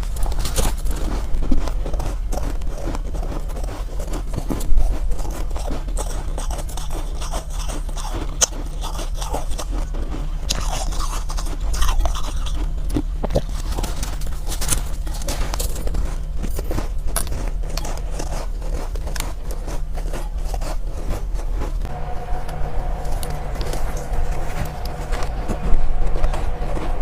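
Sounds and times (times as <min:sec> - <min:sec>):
ice being chewed: 0:00.0 - 0:21.9.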